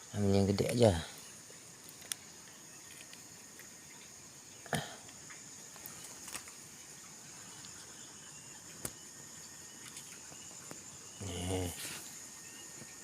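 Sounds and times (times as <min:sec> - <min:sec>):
insects chirring: 0:00.0 - 0:13.0
rustles: 0:00.6 - 0:04.2, 0:05.0 - 0:09.0, 0:09.7 - 0:13.0.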